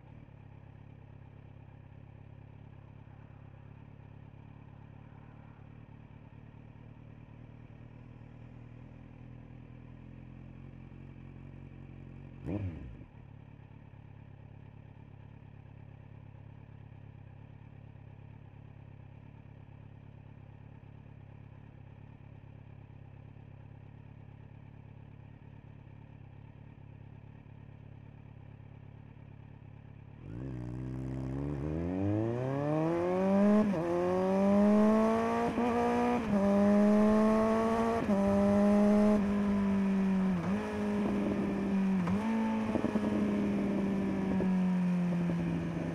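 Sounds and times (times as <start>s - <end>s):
motorcycle engine idling and accelerating: 0.0s - 45.9s.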